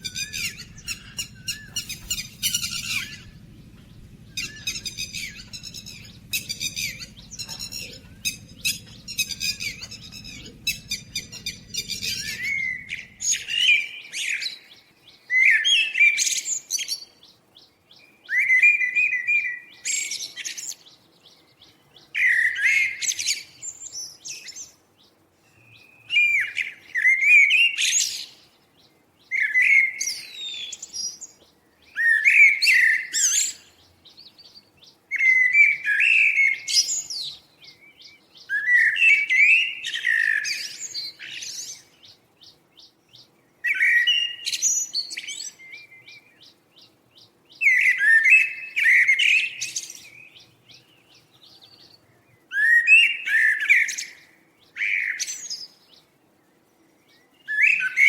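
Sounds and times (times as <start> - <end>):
songbird warbling song: 0.0 - 58.0.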